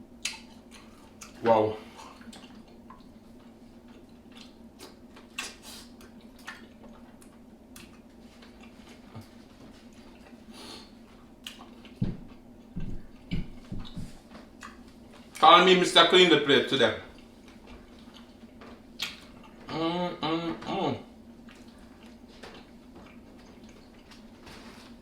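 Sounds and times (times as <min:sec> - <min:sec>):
chewing and handling food: 0:00.1 - 0:15.4, 0:17.1 - 0:19.7, 0:21.2 - 0:25.0.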